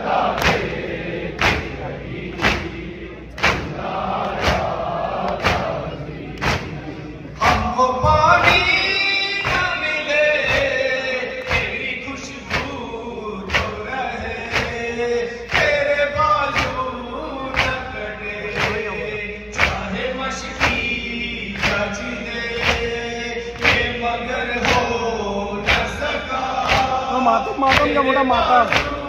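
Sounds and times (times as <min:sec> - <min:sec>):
men reciting a lament: 0:00.0 - 0:29.0.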